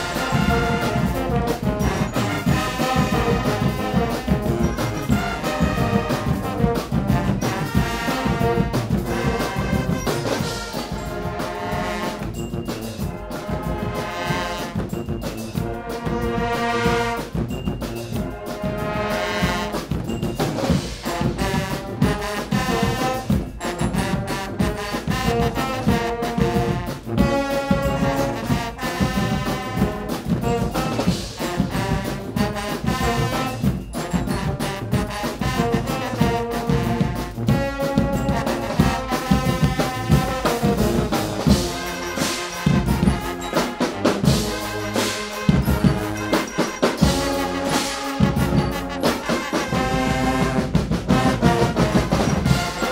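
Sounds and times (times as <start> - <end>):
bass drums and cymbals: 0.0 - 52.9
brass band playing: 0.0 - 52.9.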